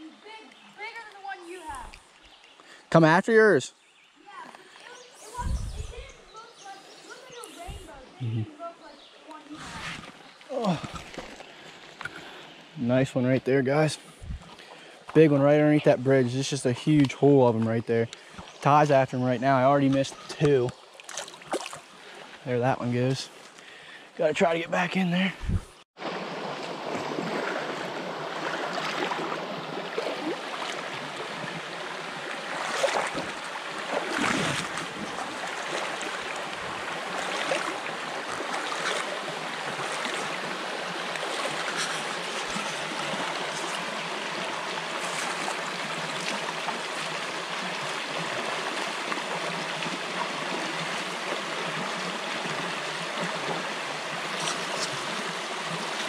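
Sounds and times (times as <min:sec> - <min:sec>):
creek running over rocks: 0:00.0 - 0:25.4, 0:26.0 - 0:56.0
water splashes: 0:04.4 - 0:13.0, 0:13.8 - 0:24.0, 0:26.0 - 0:56.0.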